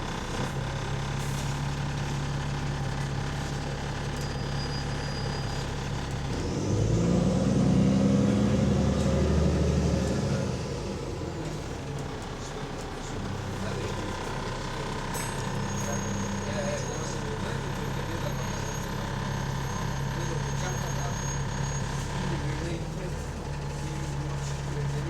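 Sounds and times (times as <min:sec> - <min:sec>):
bus diesel engine idling and revving: 0:00.0 - 0:25.0.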